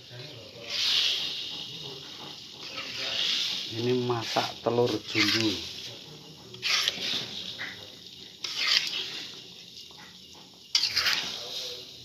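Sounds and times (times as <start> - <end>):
eggs sizzling: 0.0 - 12.0
metal spatula scraping a wok: 0.3 - 12.0.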